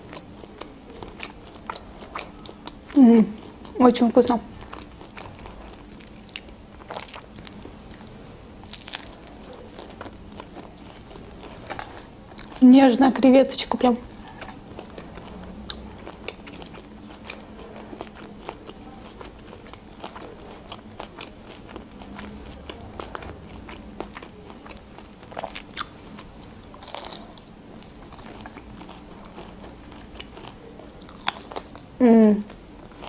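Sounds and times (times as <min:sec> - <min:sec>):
chewing crunchy fried shrimp: 0:00.0 - 0:12.6, 0:14.0 - 0:33.0.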